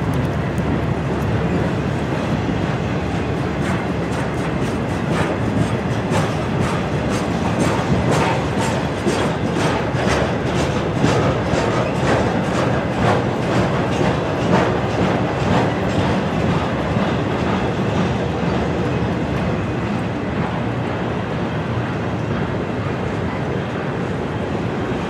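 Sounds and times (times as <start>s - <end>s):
freight train rumble: 0.0s - 25.0s
train wheels clacking over rail joints: 0.0s - 25.0s.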